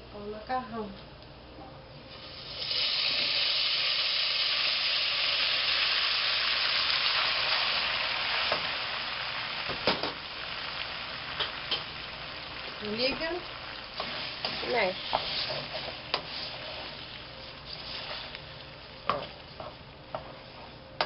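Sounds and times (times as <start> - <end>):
hot oil sizzling: 2.1 - 20.0.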